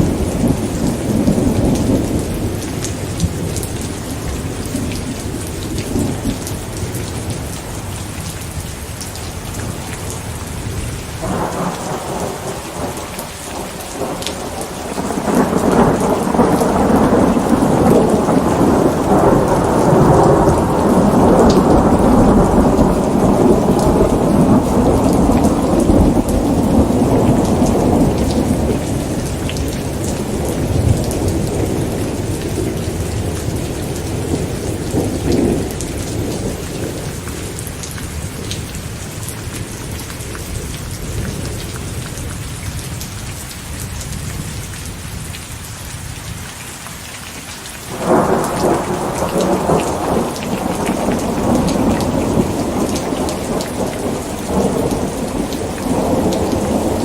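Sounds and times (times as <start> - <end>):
thunder rumbling: 0.0 - 8.0, 9.4 - 39.3, 47.9 - 57.0
steady rain falling: 0.0 - 57.0.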